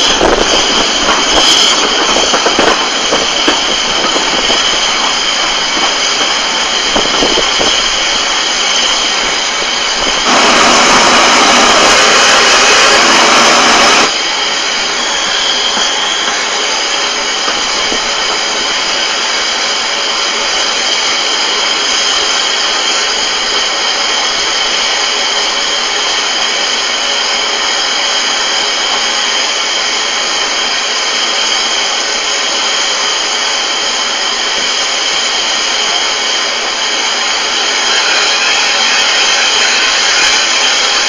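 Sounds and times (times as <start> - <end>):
steam hissing: 0.0 - 41.0.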